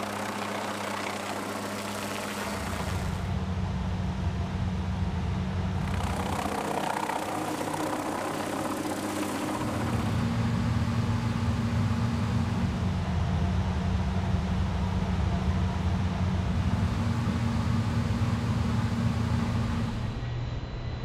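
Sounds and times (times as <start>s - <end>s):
steady engine hum: 0.0s - 21.0s.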